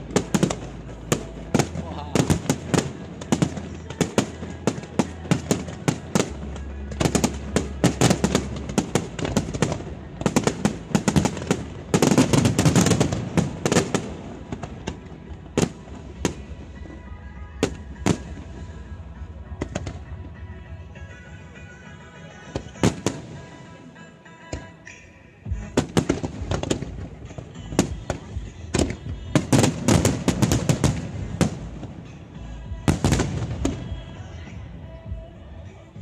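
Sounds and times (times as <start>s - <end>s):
faint music: 0.0s - 36.0s
fireworks bursting and crackling: 0.0s - 36.0s.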